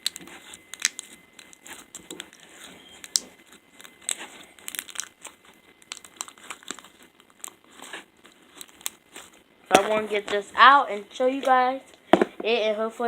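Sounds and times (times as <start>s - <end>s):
slime crackling: 0.0s - 11.6s.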